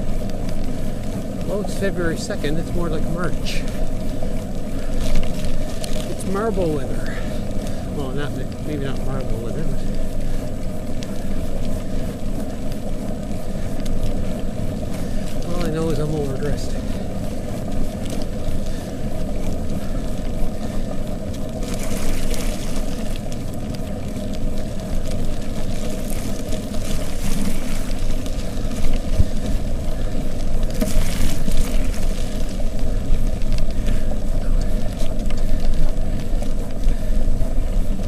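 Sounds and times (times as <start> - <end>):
tyres on wet slushy asphalt: 0.0 - 38.0.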